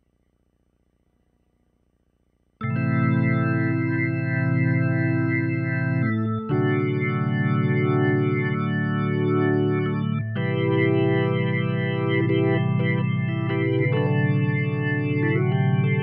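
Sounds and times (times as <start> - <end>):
synthesizer organ chords: 2.6 - 16.0.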